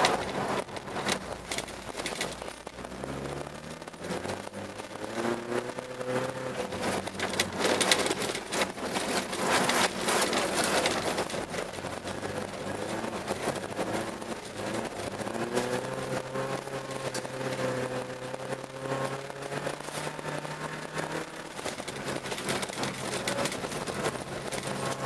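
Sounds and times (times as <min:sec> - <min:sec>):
car engine revving: 0:00.0 - 0:25.0
tyres crackling on loose snow: 0:00.0 - 0:25.0.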